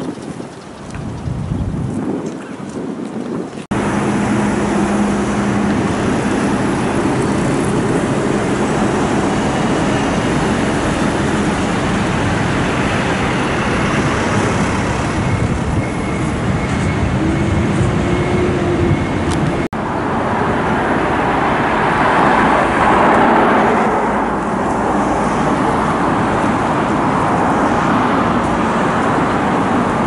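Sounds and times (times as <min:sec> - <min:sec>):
road traffic: 0:00.0 - 0:30.0.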